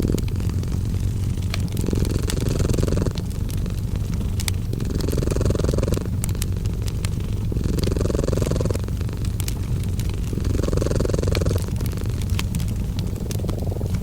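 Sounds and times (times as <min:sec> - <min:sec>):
cat purring: 0:00.0 - 0:14.0
fireplace crackling: 0:00.0 - 0:14.0.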